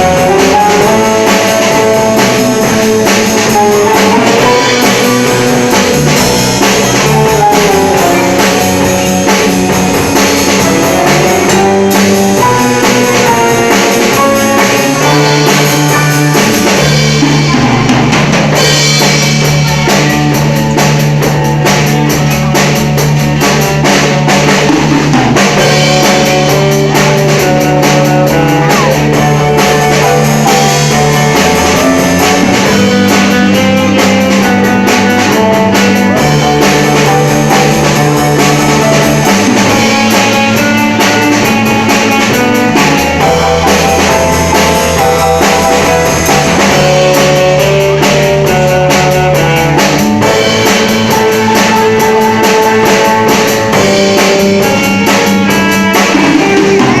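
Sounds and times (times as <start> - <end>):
drum kit and guitar music: 0.0 - 57.0
held bass notes: 0.0 - 57.0.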